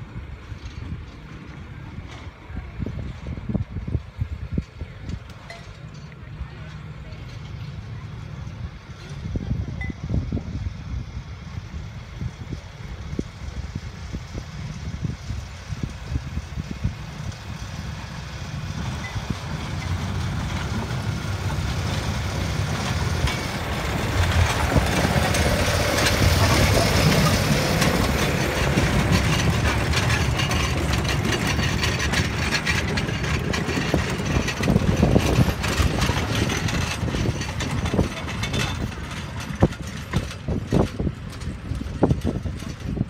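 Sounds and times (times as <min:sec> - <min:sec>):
carriages rolling on rails: 0:00.0 - 0:43.0
small train passing: 0:00.0 - 0:43.0.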